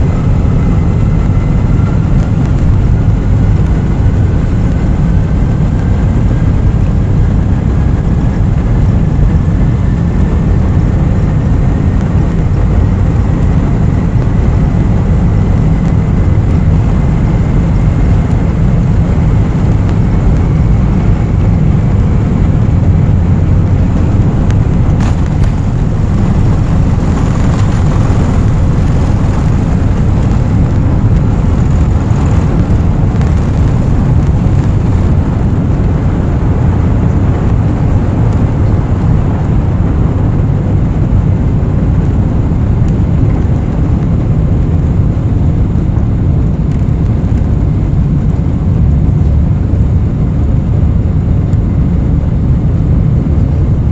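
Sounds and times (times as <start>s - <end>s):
jet engines low rumble: 0.0s - 53.9s.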